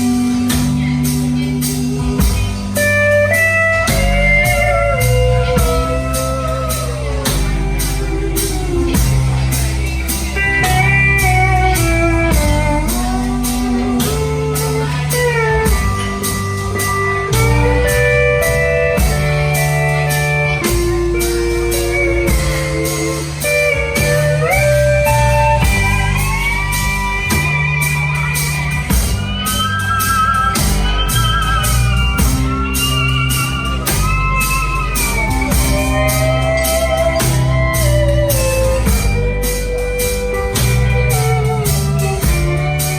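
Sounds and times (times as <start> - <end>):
band playing instrumental: 0.0 - 42.9
guitar lead with bending notes: 0.0 - 42.9
low bass notes: 0.0 - 42.9
steady drum beat: 0.0 - 42.9.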